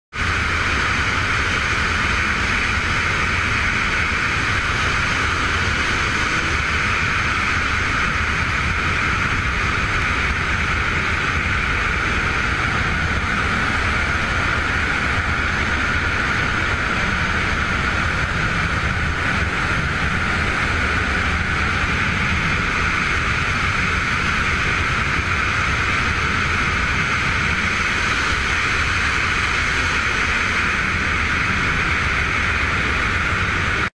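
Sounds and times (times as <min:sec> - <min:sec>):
steady rushing noise: 0:00.1 - 0:33.9
low rumble: 0:00.2 - 0:33.9.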